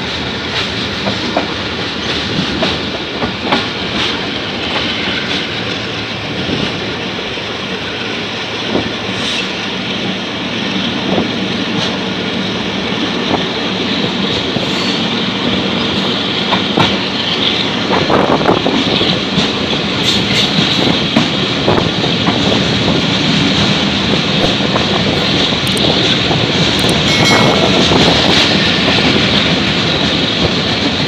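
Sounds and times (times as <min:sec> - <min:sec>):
rail joint clicks: 0:00.0 - 0:31.0
train wheels rushing on rail: 0:00.0 - 0:31.0.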